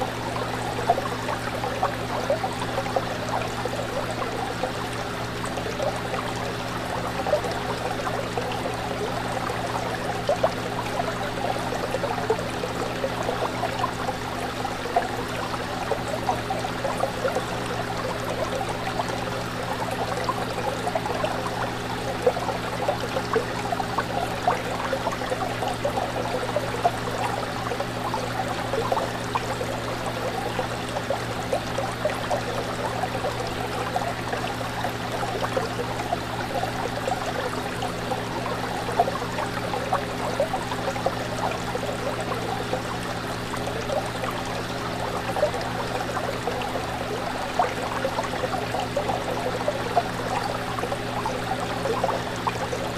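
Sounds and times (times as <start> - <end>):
fish tank water bubbling: 0.0 - 52.9.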